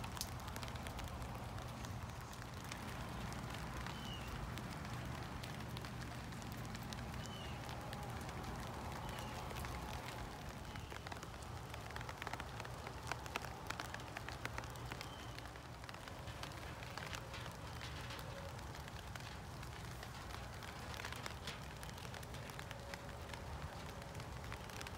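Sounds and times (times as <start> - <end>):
raindrops tapping: 0.0 - 24.9
steady rain hiss: 0.0 - 24.9.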